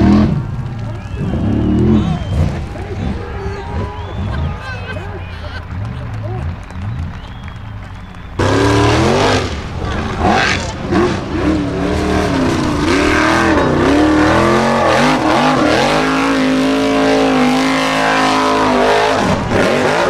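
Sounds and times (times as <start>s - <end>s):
buggy engine revving hard: 0.0s - 20.0s.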